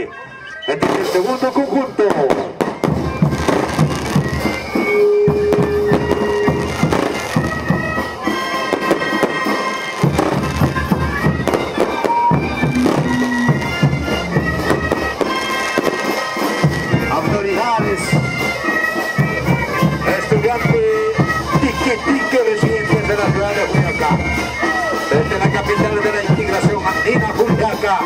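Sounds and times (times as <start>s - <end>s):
wooden flutes playing: 0.0s - 28.0s
sharp percussive beats: 0.8s - 28.0s.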